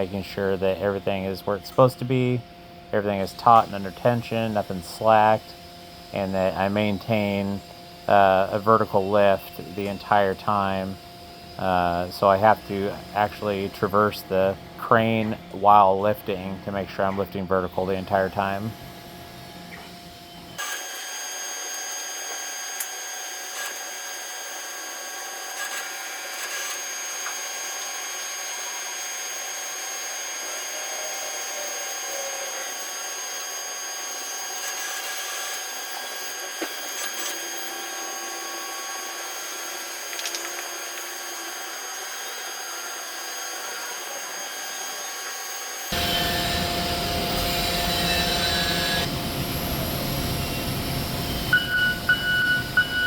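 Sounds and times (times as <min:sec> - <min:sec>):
electric hoist motor whine: 0:00.0 - 0:53.0.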